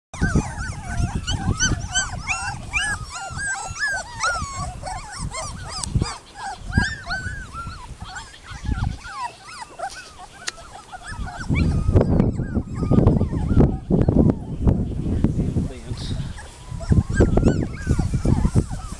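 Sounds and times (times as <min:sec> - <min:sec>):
puppies whimpering and yipping: 0:00.2 - 0:15.1, 0:15.7 - 0:18.9.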